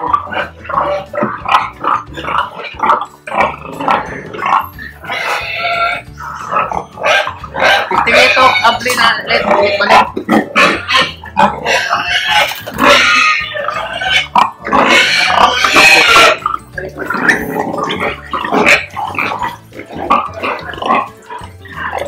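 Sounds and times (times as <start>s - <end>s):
pigs grunting: 0.0s - 22.0s
pigs squealing: 0.0s - 22.0s.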